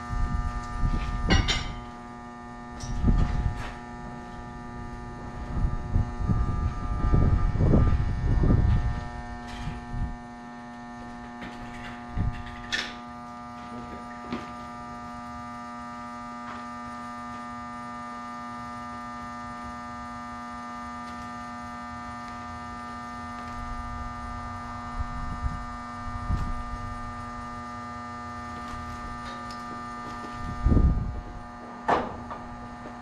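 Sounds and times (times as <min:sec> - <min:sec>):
welding machine buzzing hum: 0:00.0 - 0:33.0.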